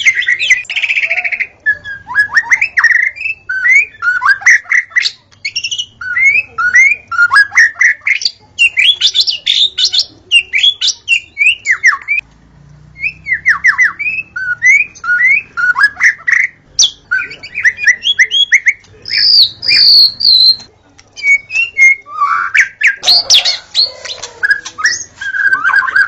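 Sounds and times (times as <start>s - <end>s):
bird singing whistled notes: 0.0s - 12.2s, 13.0s - 26.0s.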